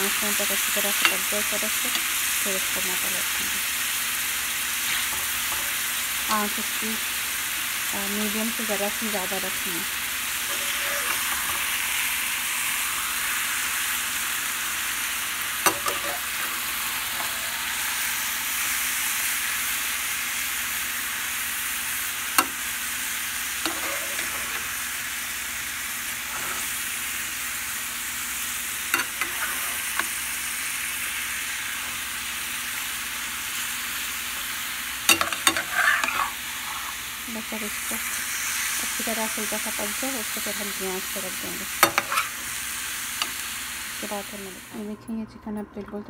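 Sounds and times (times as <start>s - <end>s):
chicken sizzling in oil: 0.0s - 44.8s.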